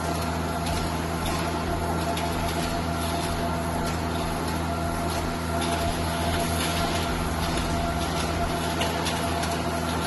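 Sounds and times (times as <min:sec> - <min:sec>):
wire drawing machine humming: 0:00.0 - 0:10.0.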